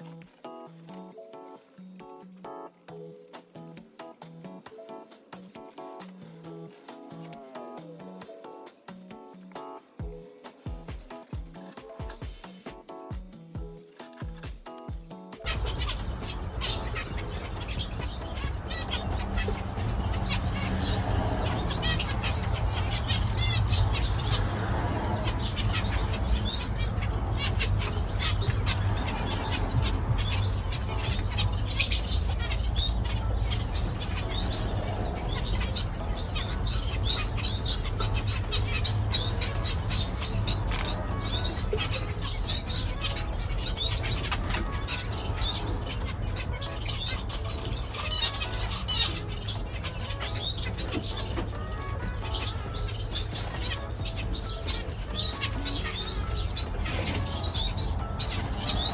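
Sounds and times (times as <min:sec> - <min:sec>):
finches chirping: 0:00.0 - 0:58.9.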